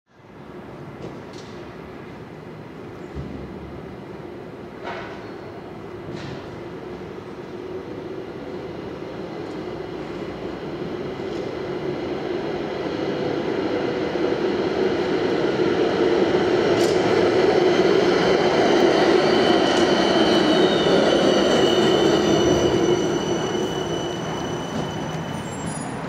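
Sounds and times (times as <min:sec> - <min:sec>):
tram wheels rumbling on rails: 0:00.2 - 0:26.0.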